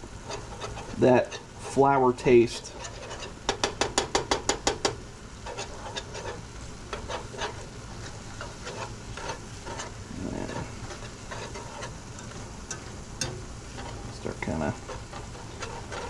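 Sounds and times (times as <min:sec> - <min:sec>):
faint sizzle: 0:00.0 - 0:16.0
whisk scraping cast iron pan: 0:00.0 - 0:16.0.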